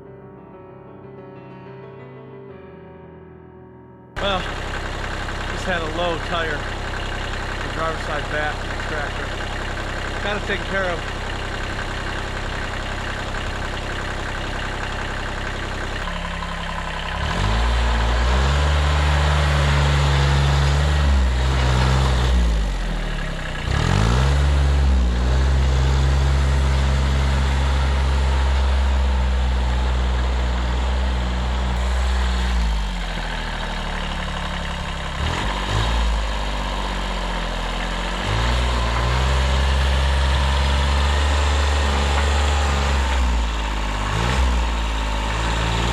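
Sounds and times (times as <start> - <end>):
diesel engine idling and revving: 4.2 - 45.9.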